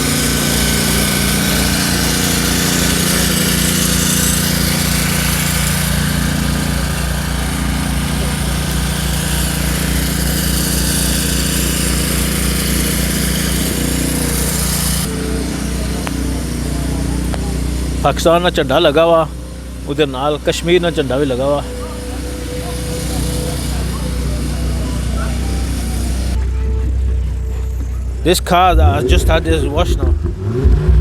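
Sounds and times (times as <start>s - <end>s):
water jet hissing: 0.0s - 26.4s
pressure washer motor hum: 0.0s - 31.0s.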